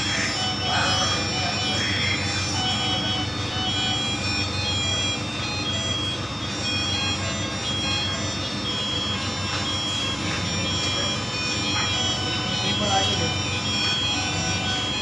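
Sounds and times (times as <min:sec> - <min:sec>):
machine hum and hiss: 0:00.0 - 0:15.0
medical monitors beeping: 0:00.0 - 0:15.0.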